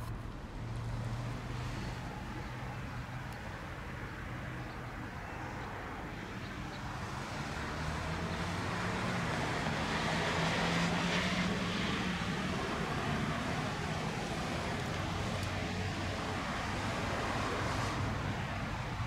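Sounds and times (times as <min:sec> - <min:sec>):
locomotive diesel engines droning: 0:00.0 - 0:19.0.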